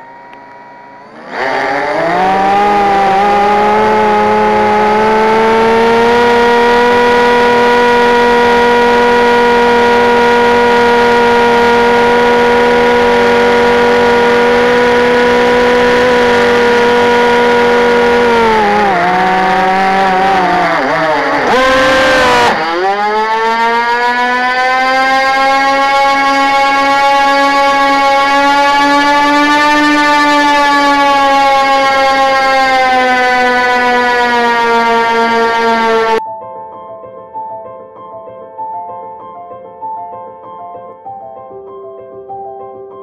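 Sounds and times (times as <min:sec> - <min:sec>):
drone motors whining: 0:00.0 - 0:36.2.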